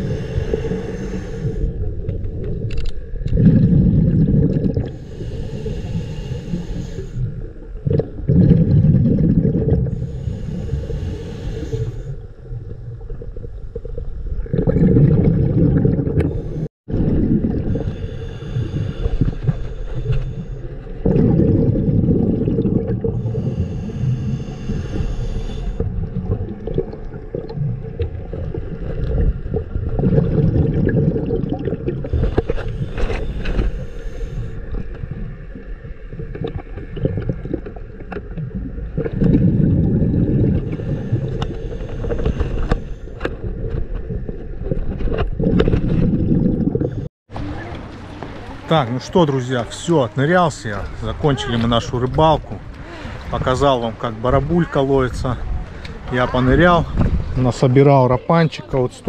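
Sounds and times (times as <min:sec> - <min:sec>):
underwater bubbles gurgling: 0:00.0 - 0:57.4.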